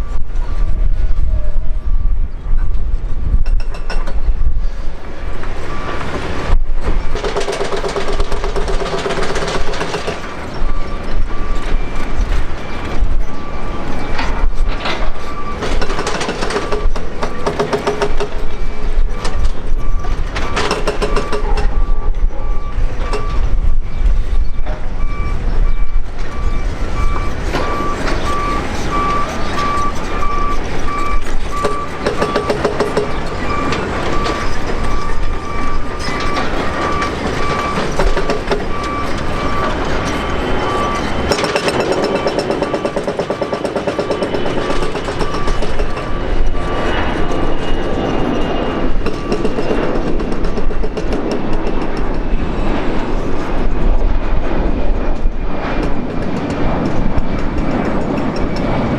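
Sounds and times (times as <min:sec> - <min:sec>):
jet engines running: 0:04.2 - 0:58.9.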